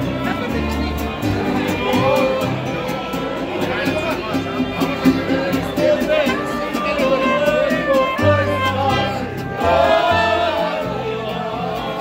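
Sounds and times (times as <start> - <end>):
guitarron plucking bass notes: 0.0 - 12.0
strummed strings: 0.0 - 12.0
man singing: 0.1 - 4.0, 4.8 - 12.0.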